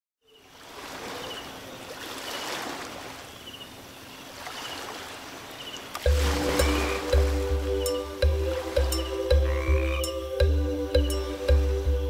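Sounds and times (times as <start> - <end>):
water rushing: 0.5 - 12.0.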